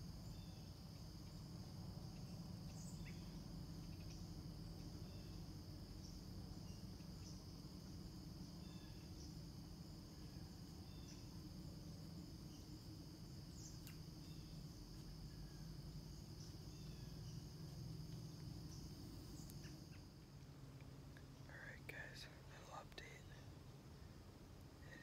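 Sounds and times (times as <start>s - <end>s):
crickets trilling: 0.0s - 25.0s
low background rumble: 0.0s - 25.0s.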